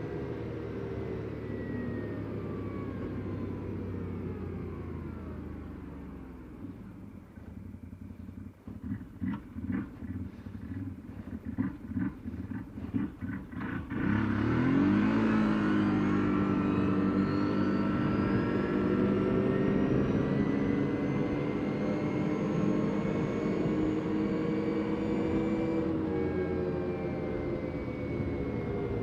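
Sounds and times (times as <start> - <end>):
atv engine chugging and revving: 0.0 - 29.0.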